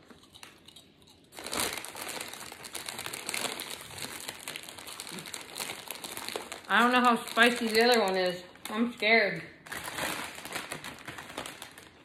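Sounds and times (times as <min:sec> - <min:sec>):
chip bag rustling and crackling: 0:01.3 - 0:12.0.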